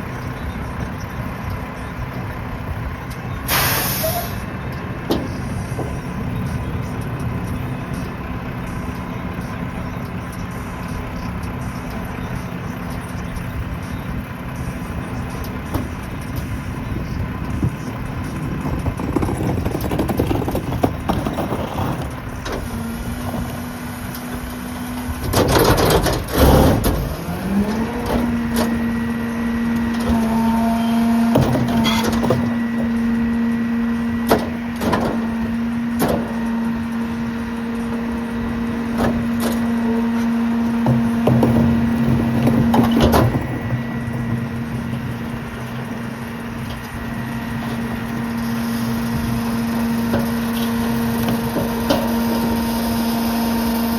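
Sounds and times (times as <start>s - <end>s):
garbage truck engine revving: 0.0s - 53.9s
hydraulic packer clanking and banging: 3.1s - 8.0s, 14.5s - 53.9s.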